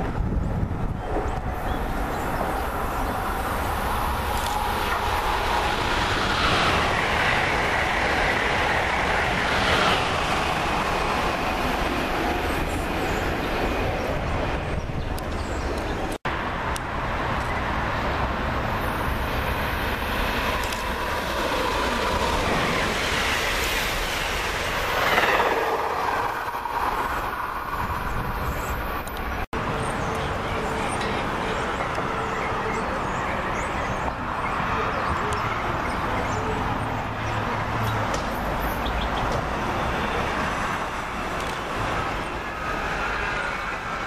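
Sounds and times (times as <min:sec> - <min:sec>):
train passing at speed: 0:00.0 - 0:44.0.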